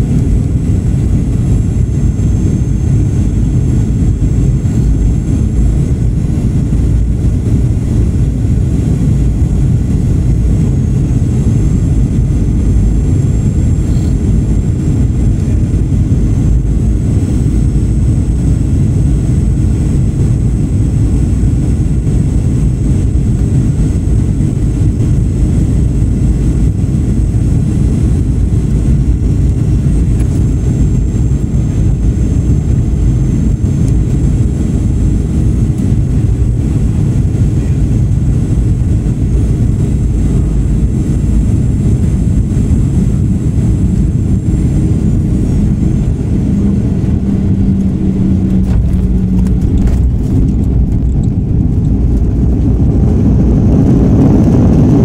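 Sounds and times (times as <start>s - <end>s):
high fan whine: 0.0s - 55.0s
jet engine roar: 0.0s - 55.0s
rushing air: 0.0s - 55.0s.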